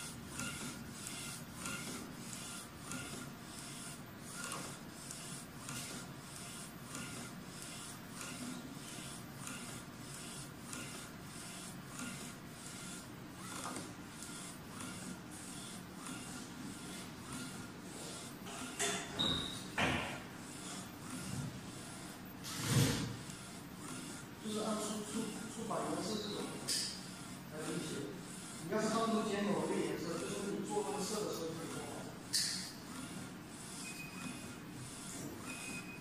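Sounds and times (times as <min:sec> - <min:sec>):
printer carriage sweeping: 0:00.0 - 0:36.0.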